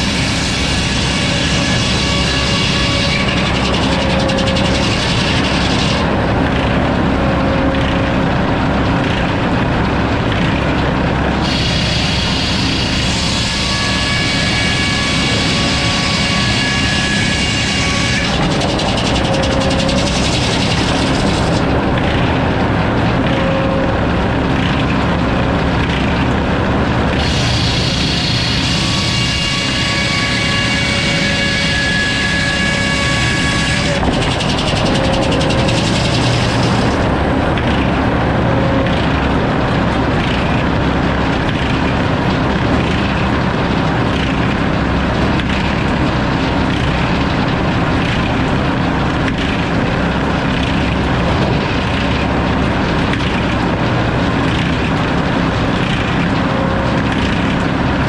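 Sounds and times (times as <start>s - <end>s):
sawmill saw cutting lumber: 0.0s - 58.0s.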